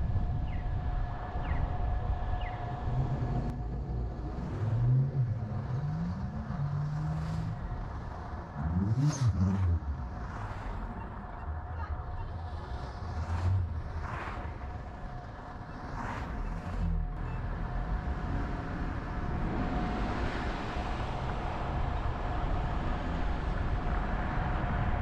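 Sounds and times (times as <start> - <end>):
car engine accelerating and slowing: 0.0 - 25.0.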